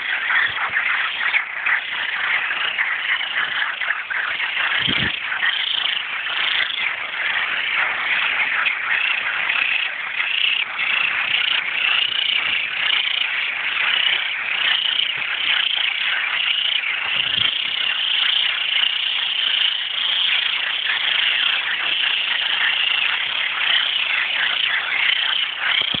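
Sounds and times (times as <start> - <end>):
chorus of frogs calling: 0.0 - 26.0.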